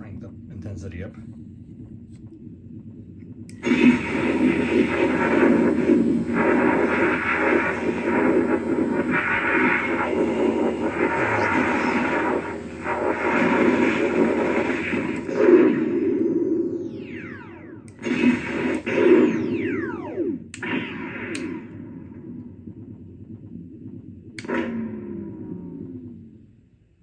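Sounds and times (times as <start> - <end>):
noisy blaster firing effect: 3.4 - 26.4.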